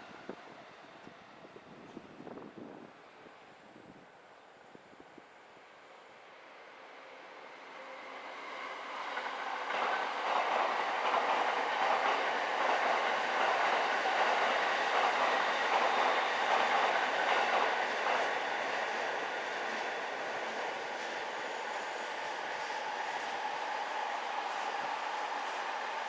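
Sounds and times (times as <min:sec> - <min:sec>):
electric train passing on rails: 0:00.0 - 0:26.0.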